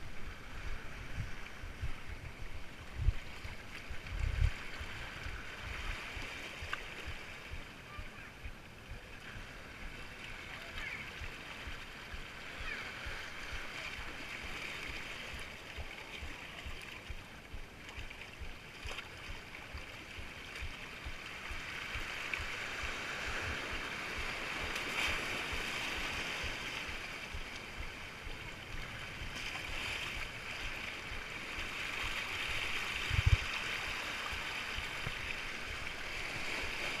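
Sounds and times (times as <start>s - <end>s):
waves splashing over rocks: 0.0s - 37.0s.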